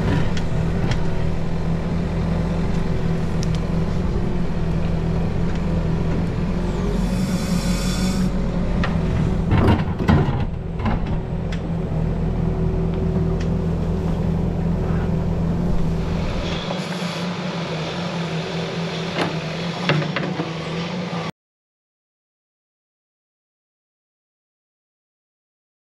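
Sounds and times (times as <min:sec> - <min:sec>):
excavator diesel engine running: 0:00.0 - 0:21.3.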